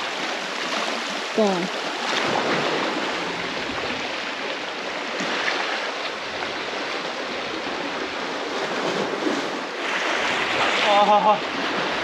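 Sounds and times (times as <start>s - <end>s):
waves washing among rocks: 0.0s - 12.0s.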